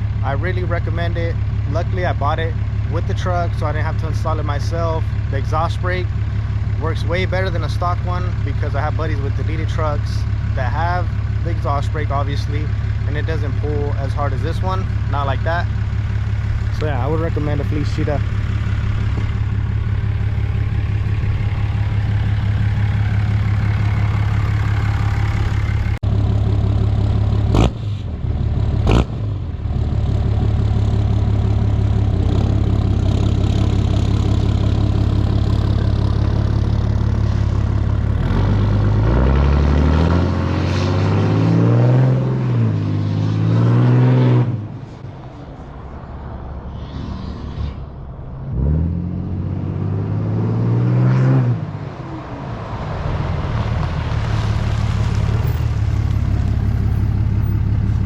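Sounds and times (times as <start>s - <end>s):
diesel engine idling and revving: 0.0s - 58.0s.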